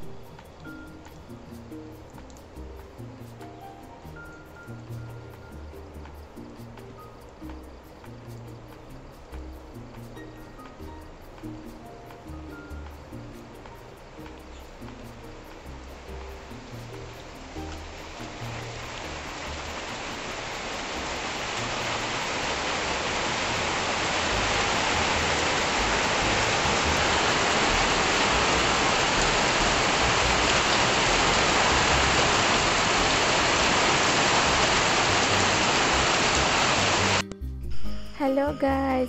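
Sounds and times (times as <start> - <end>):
heavy rain falling: 0.0 - 37.2
water dripping off roof: 0.0 - 37.2.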